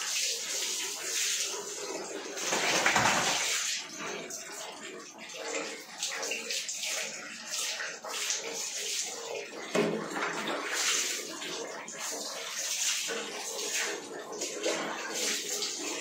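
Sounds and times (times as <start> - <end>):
water pouring and splashing: 0.0 - 16.0
water splashing on tiled floor: 0.0 - 16.0.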